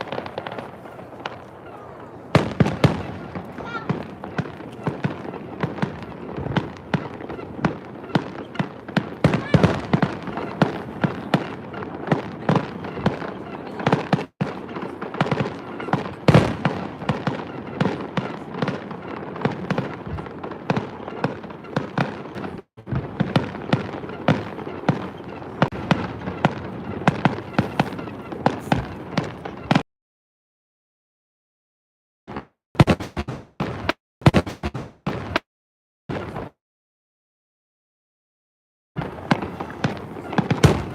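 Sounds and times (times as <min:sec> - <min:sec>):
fireworks bangs and crackles: 0:00.0 - 0:29.8, 0:32.3 - 0:35.5, 0:36.1 - 0:36.6, 0:39.0 - 0:40.9.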